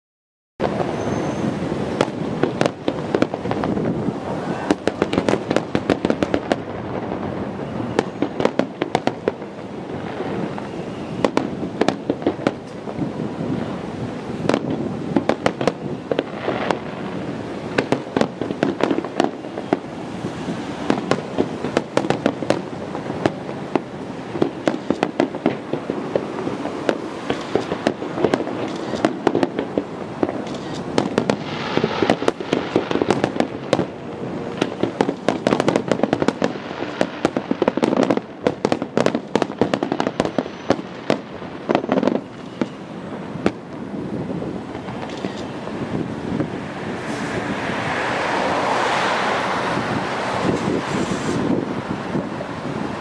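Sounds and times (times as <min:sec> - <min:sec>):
fireworks bangs and crackling: 0:00.6 - 0:53.0.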